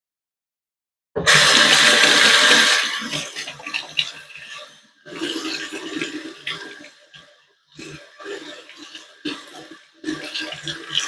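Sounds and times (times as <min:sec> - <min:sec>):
water splashing in a sink: 0:01.2 - 0:11.0.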